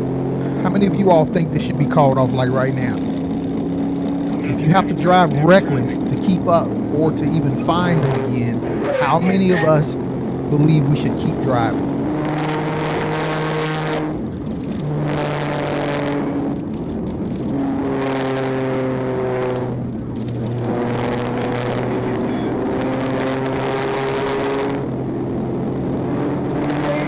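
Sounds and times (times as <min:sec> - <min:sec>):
car engine drone: 0:00.0 - 0:27.0
road and wind noise: 0:00.0 - 0:27.0.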